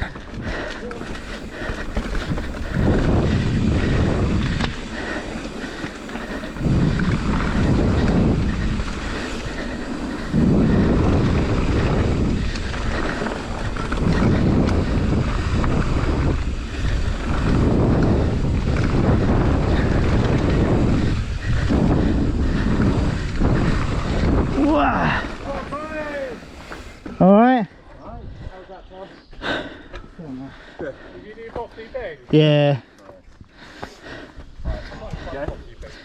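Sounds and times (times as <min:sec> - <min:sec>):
wind buffeting microphone: 0:00.0 - 0:32.4, 0:33.2 - 0:36.0
bike running noise: 0:00.0 - 0:36.0.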